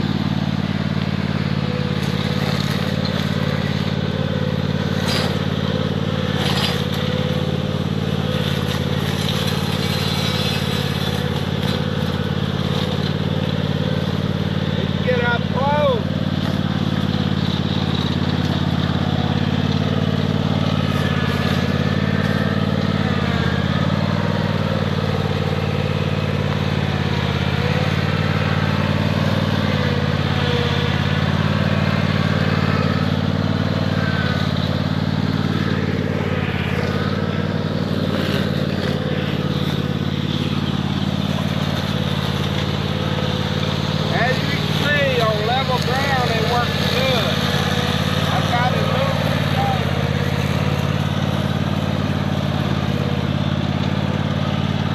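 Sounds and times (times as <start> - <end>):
riding lawnmower engine running: 0.0 - 54.9.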